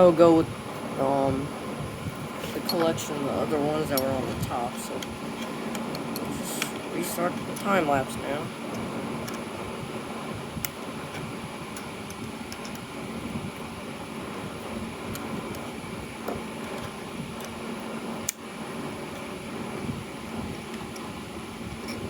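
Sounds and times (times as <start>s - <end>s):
mechanical hum and hiss: 0.0s - 22.0s.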